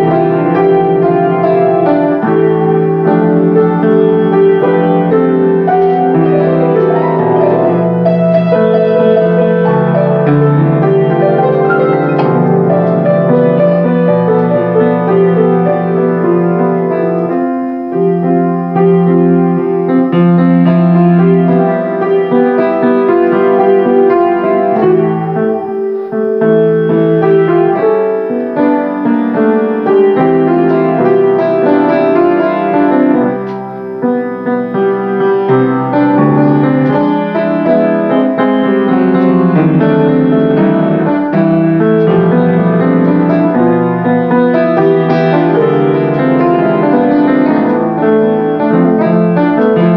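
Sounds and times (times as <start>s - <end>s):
grand piano playing chords: 0.0s - 49.9s.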